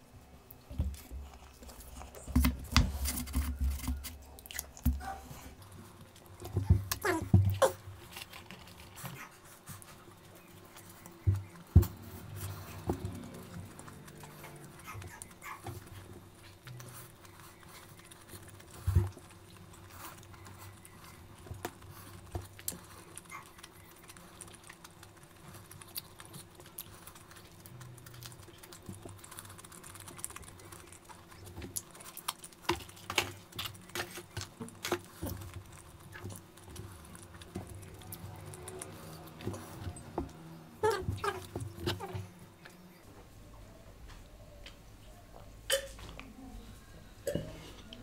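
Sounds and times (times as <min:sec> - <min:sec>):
wet chewing and smacking: 0:00.5 - 0:42.8.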